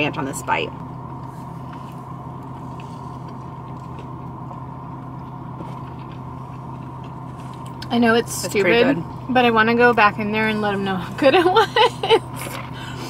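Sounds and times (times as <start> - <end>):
car idling from inside: 0.0 - 13.0.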